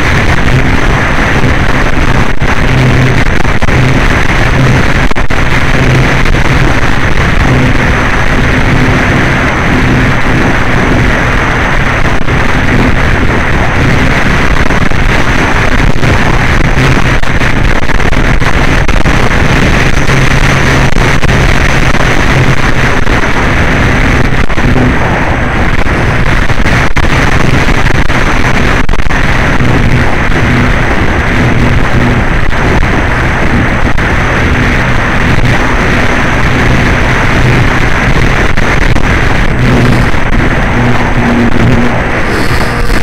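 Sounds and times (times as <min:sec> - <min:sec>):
low hum: 0:00.0 - 0:43.0
wind rushing on microphone: 0:00.0 - 0:43.0.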